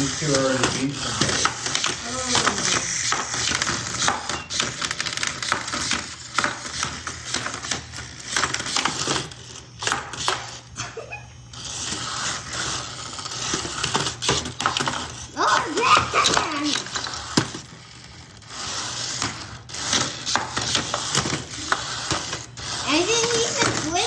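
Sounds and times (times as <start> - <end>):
toy robots clattering: 0.0 - 24.0.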